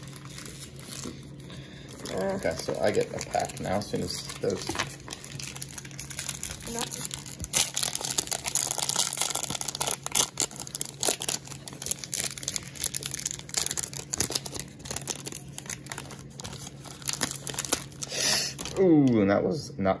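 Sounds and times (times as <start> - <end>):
foil wrapper crinkling: 0.0 - 19.3.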